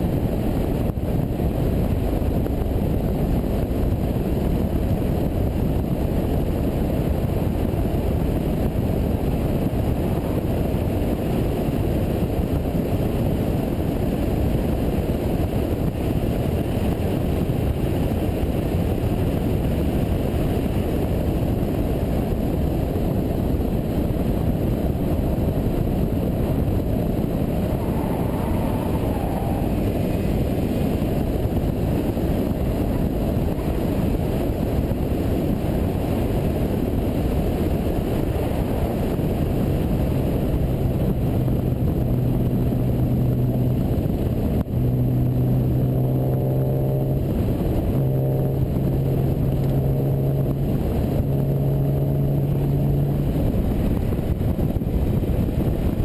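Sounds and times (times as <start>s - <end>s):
car road noise: 0.0s - 56.0s
wind rumble on microphone: 0.0s - 56.0s.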